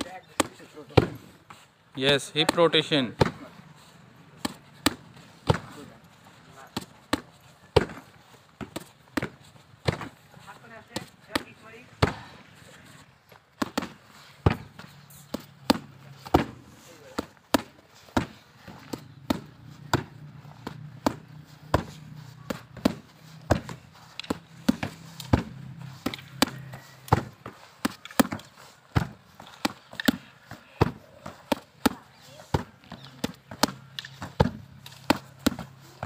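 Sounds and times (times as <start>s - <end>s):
boxing gloves slapping pads: 4.3s - 5.9s, 6.6s - 12.3s, 13.6s - 36.0s.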